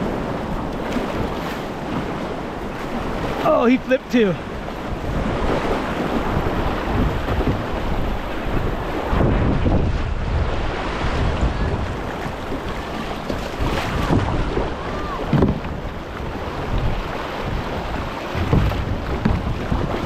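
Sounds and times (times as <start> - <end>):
river water rushing: 0.0 - 9.3, 10.0 - 20.0
wind buffeting microphone: 0.0 - 20.0.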